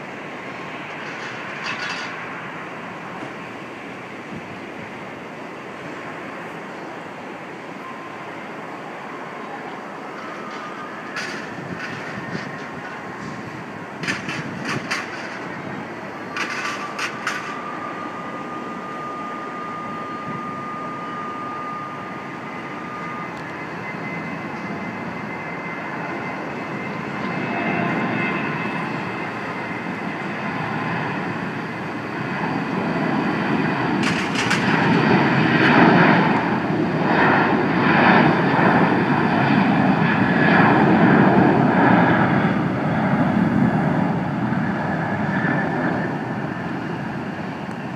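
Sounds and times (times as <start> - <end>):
distant jet engine rumble: 0.0 - 47.9
thin steady whine: 0.0 - 47.9.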